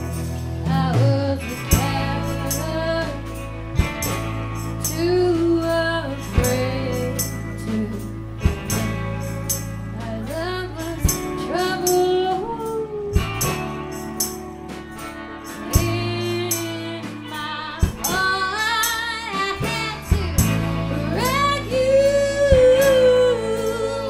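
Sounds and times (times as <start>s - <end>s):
woman singing: 0.0s - 14.0s, 15.0s - 24.0s
drums: 0.0s - 24.0s
electric guitars: 0.0s - 24.0s.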